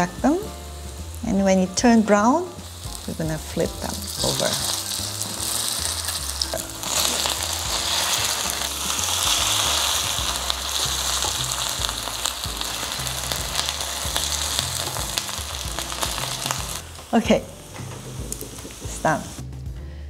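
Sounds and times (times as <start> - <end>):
pancakes sizzling in oil: 2.6 - 19.4.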